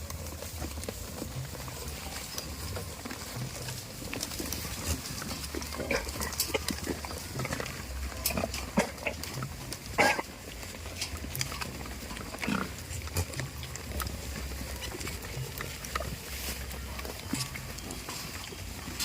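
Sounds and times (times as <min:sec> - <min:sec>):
goats bleating: 0:03.0 - 0:18.3.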